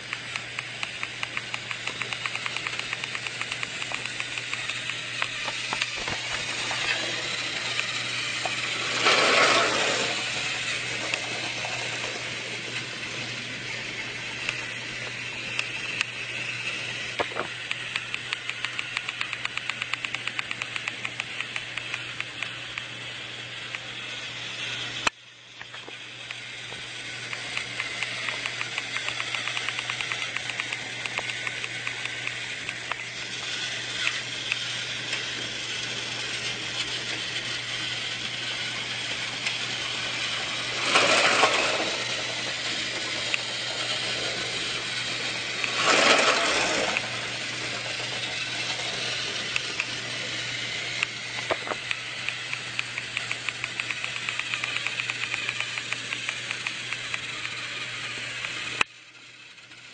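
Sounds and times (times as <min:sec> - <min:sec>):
small motor rattling clicks: 0:00.0 - 0:59.9.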